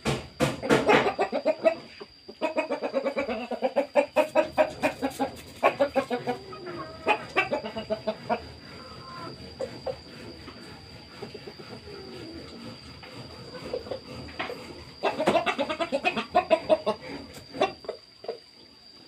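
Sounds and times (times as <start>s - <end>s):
chickens clucking: 0.4s - 19.0s
thin high whine: 1.0s - 19.0s.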